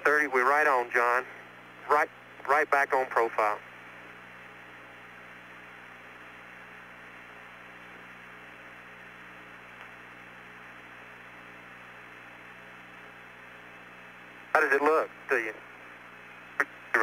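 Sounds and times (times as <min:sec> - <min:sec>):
radio hiss and hum: 0:00.0 - 0:17.0.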